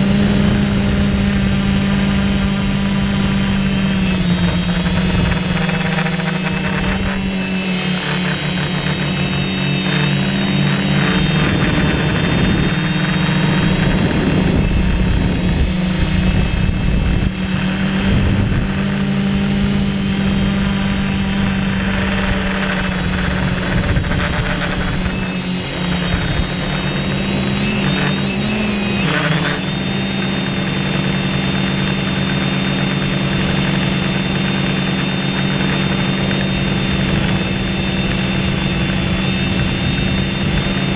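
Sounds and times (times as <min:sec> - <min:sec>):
drone motors humming and whining: 0:00.0 - 0:40.9.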